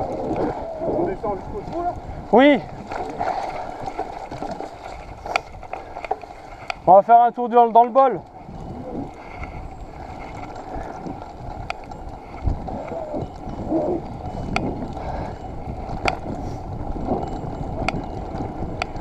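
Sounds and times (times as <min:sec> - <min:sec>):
bike tyres rumbling on trail: 0:00.0 - 0:19.0
bike clicks and knocks: 0:02.7 - 0:07.0, 0:07.7 - 0:19.0.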